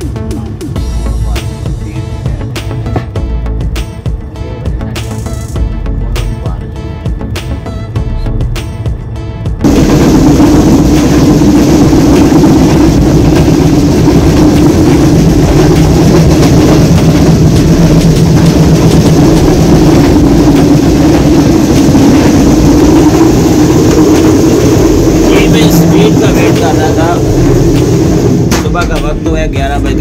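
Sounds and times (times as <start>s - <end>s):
low hum: 0.0s - 30.0s
train running noise: 0.0s - 30.0s.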